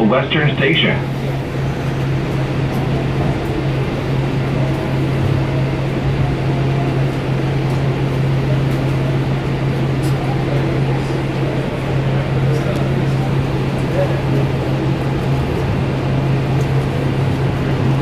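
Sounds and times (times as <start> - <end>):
light rail car interior hum: 0.0 - 18.0
rail car rumbling: 0.0 - 18.0.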